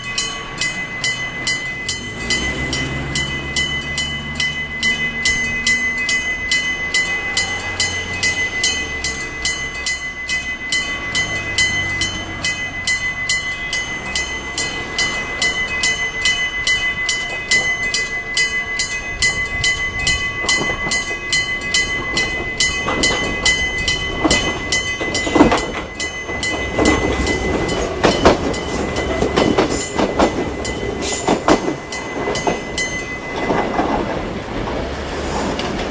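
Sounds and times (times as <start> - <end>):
level crossing bell ringing: 0.0 - 34.4
train wheels clacking over rail joints: 0.2 - 35.9.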